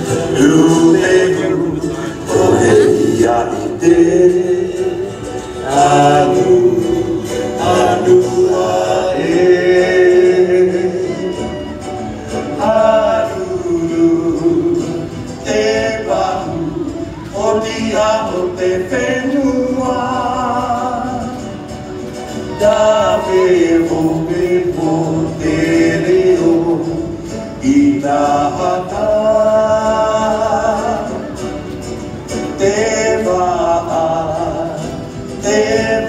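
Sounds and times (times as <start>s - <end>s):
voices singing long sliding notes: 0.0s - 21.1s, 22.4s - 31.4s.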